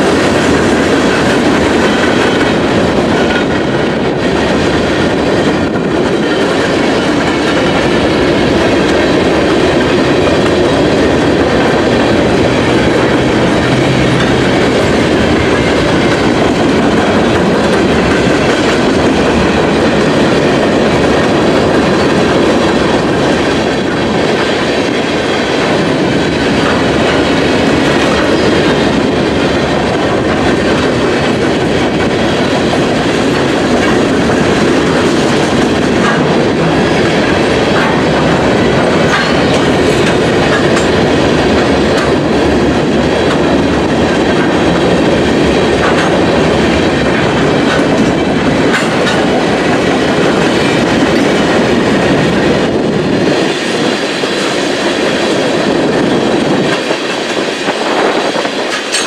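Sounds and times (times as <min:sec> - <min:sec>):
wheels clicking over rail joints: 0:00.0 - 0:54.5, 0:55.9 - 0:59.0
train wheels rumbling on rails: 0:00.0 - 0:59.0.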